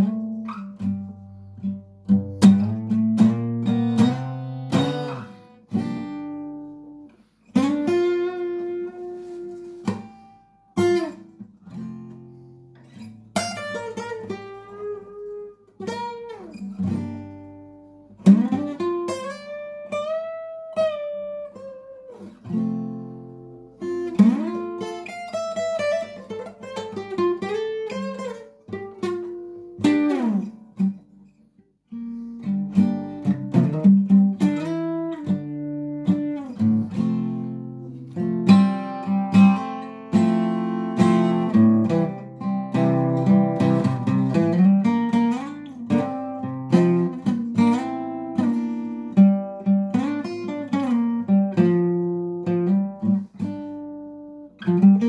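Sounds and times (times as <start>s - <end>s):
solo guitar playing: 0.0s - 55.0s.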